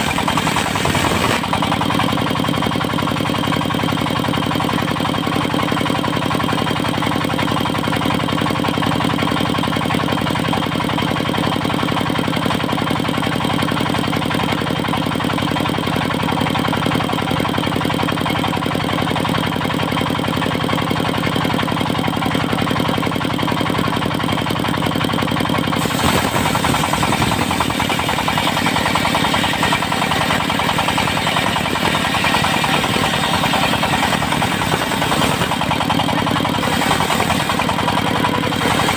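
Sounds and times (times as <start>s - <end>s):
sawmill machine running: 0.0s - 38.9s.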